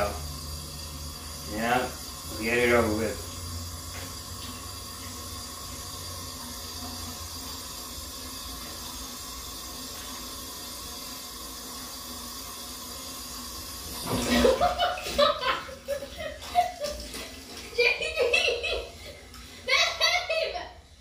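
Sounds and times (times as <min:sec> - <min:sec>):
faucet water running into sink: 0:00.0 - 0:21.0.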